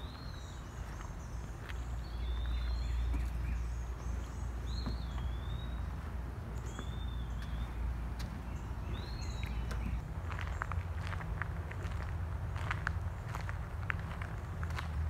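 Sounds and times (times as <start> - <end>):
steady low rumble: 0.0 - 15.0
footsteps on wooden bridge: 0.3 - 15.0.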